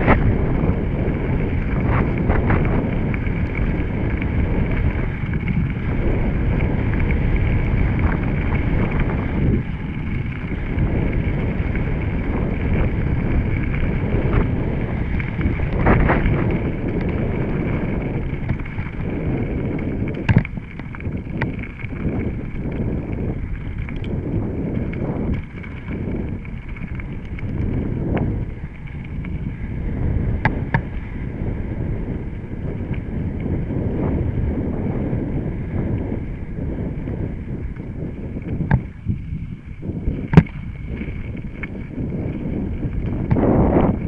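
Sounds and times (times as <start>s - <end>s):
bike rattling and clicking: 0.0s - 44.0s
bike tyres on dirt: 0.0s - 44.0s
wind buffeting microphone: 0.0s - 44.0s.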